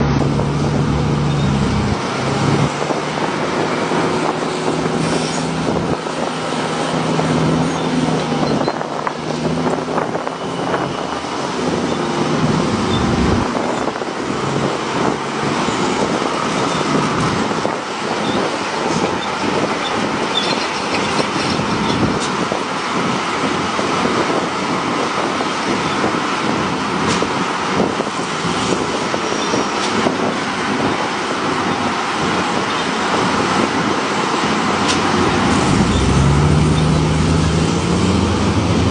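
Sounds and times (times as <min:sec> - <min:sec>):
dump truck rumbling clatter: 0:00.0 - 0:38.9.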